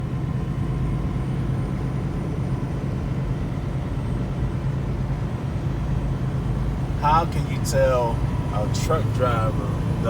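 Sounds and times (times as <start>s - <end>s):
truck engine and road drone: 0.0s - 10.0s.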